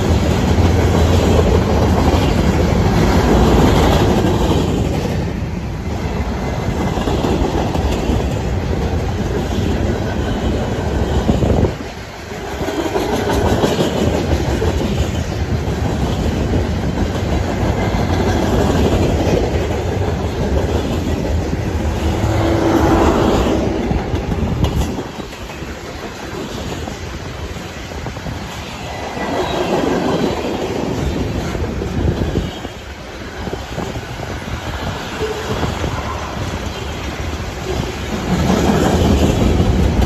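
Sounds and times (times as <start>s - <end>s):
diesel locomotive engine: 0.0s - 40.0s
freight train rumbling: 0.0s - 40.0s
wheels clacking over rail joints: 0.0s - 40.0s.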